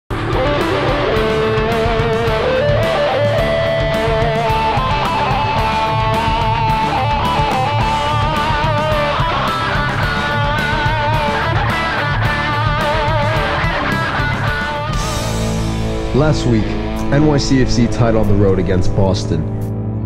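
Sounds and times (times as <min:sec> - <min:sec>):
rock music with electric guitar: 0:00.1 - 0:20.0.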